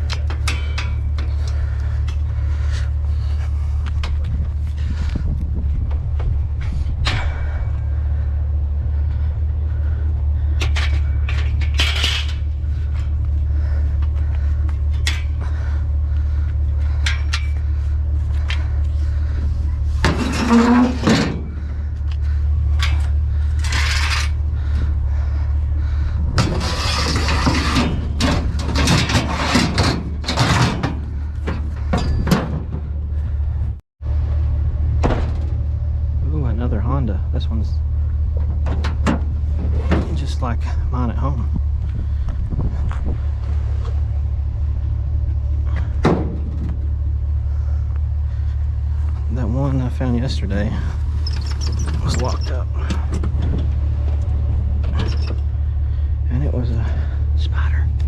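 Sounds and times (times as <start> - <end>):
metallic clanks and rattles: 0.0 - 33.7, 38.3 - 40.8, 44.0 - 49.2, 50.2 - 56.2
low engine rumble: 0.0 - 58.0.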